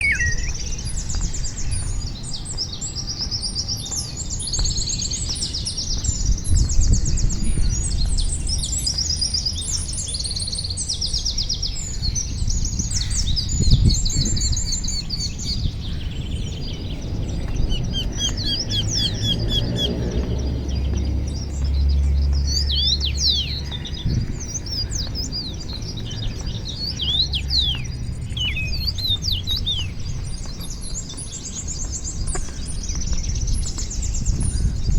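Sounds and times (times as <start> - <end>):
steady low rumble: 0.0 - 10.0, 10.8 - 34.9
songbirds chirping and trilling: 0.0 - 34.9.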